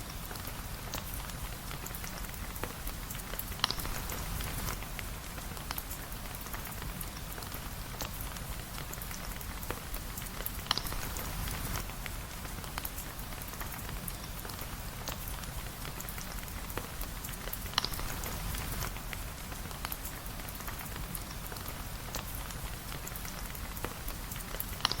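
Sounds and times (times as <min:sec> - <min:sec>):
rain falling: 0:00.0 - 0:25.0
sharp drip-like clicks: 0:00.1 - 0:25.0.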